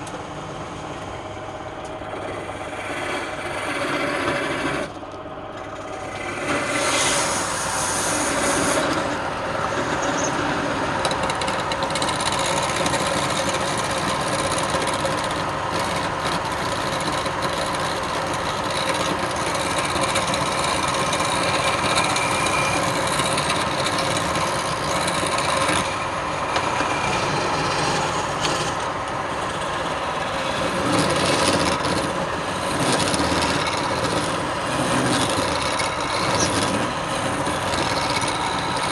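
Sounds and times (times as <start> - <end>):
wood lathe hum: 0.0 - 38.9
tool scraping spinning wood: 1.2 - 38.9.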